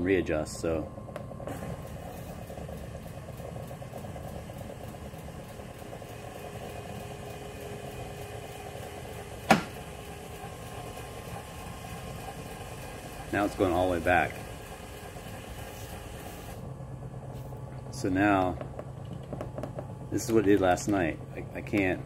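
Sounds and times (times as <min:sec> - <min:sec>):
small electric motor running: 0:01.4 - 0:22.0.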